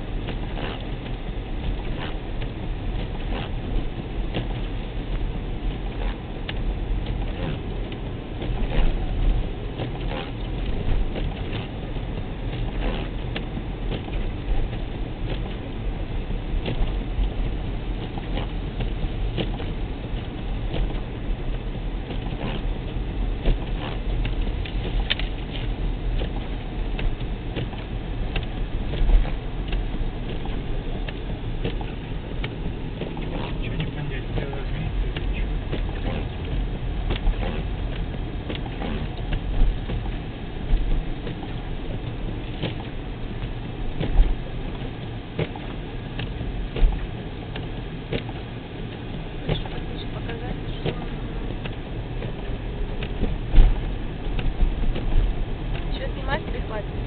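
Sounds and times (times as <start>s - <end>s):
road and engine rumble: 0.0s - 57.0s
snow pattering on car: 0.0s - 57.0s.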